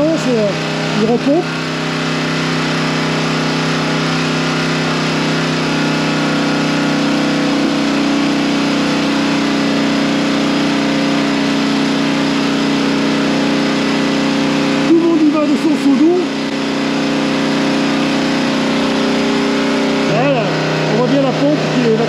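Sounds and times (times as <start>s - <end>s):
motor-driven pump running: 0.0s - 22.0s.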